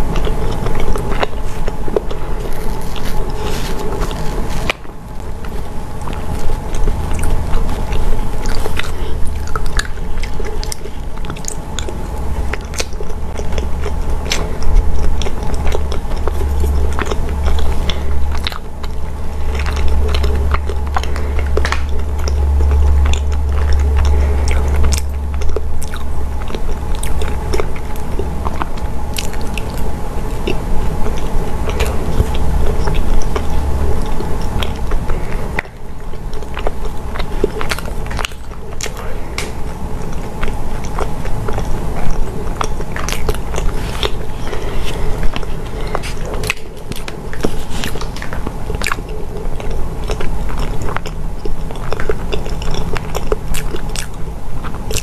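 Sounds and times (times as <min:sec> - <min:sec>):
close chewing: 0:00.0 - 0:55.0
steady low hum: 0:00.0 - 0:55.0.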